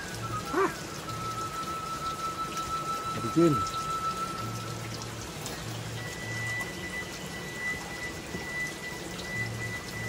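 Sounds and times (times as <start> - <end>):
steady rain: 0.0 - 10.0
thin high tone: 0.0 - 10.0.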